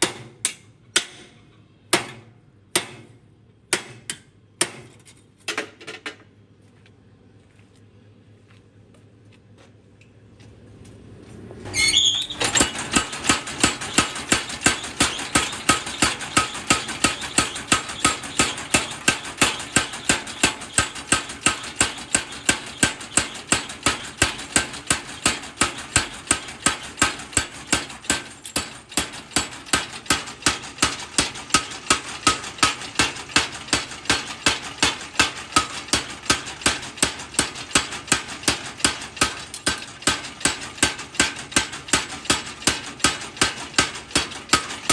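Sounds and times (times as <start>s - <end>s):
hammer striking steel: 0.0s - 5.0s, 12.4s - 44.9s.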